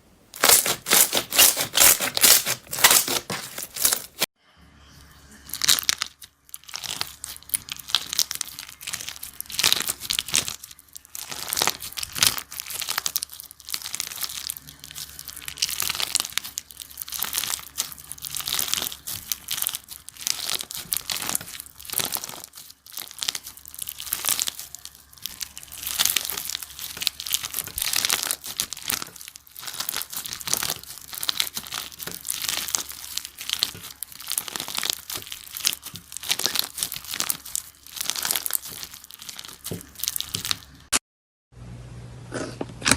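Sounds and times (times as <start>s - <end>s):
slime crackling and popping: 0.4s - 4.3s, 5.5s - 40.9s.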